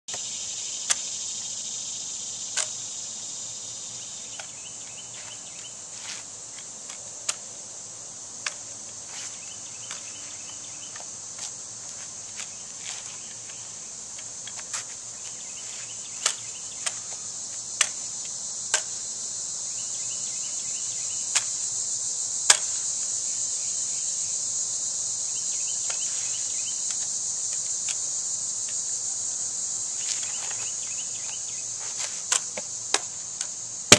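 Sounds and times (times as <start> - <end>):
crickets chirring: 0.1 - 33.9.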